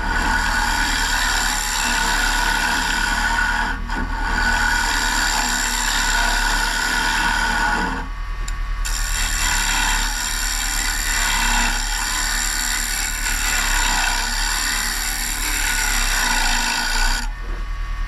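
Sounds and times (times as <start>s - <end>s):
turning tool scraping wood: 0.0s - 8.0s, 8.9s - 17.6s
wood lathe motor hum: 0.0s - 17.6s.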